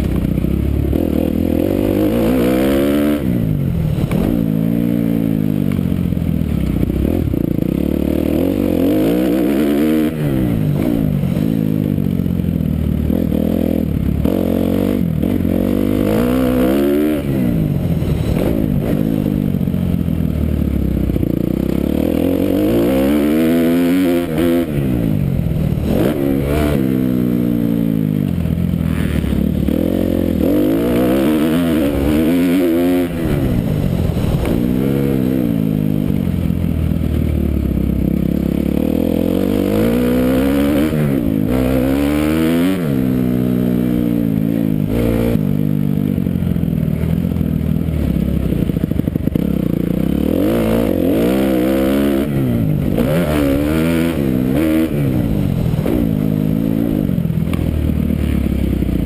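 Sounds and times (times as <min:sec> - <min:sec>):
dirt bike engine revving: 0:00.0 - 0:05.6, 0:06.4 - 0:45.8, 0:47.0 - 0:59.0.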